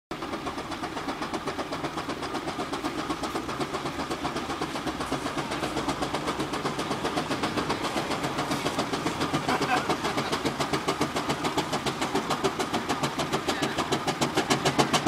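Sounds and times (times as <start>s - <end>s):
steam engine exhaust chuffing: 0.1s - 15.0s.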